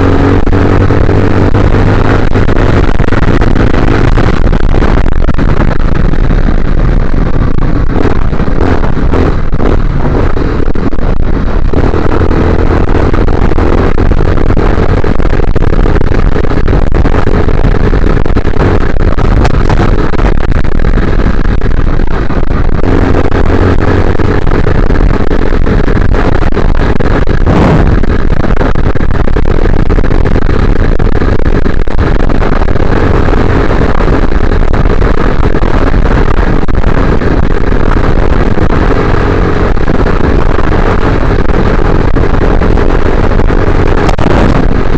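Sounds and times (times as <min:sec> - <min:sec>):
motorcycle engine running: 0:00.0 - 0:44.9
wind on microphone: 0:00.0 - 0:44.9.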